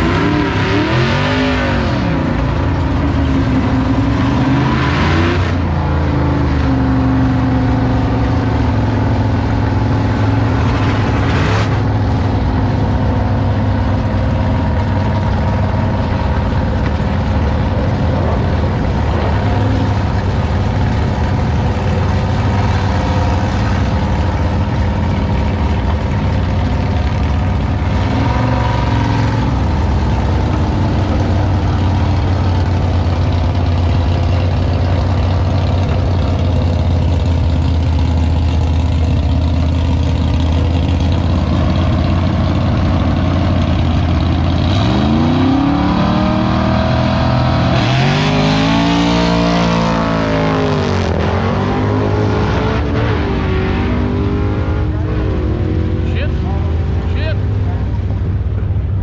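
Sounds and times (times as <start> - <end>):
engines accelerating: 0.0 - 59.0
drag car engines idling: 1.4 - 52.1, 54.5 - 59.0.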